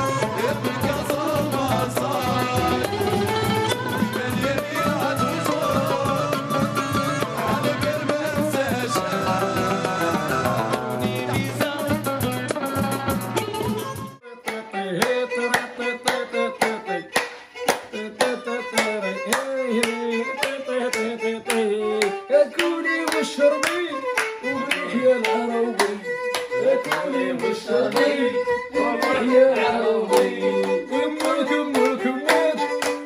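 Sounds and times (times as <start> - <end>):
hand claps: 0.0 - 28.2, 28.9 - 33.0
violin folk music: 0.0 - 33.0.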